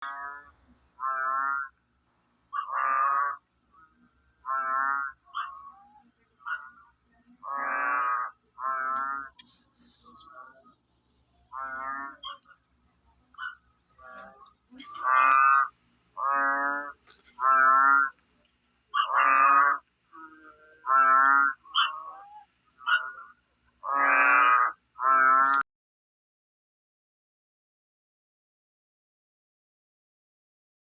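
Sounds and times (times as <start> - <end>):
frog croaking: 0.0 - 25.7.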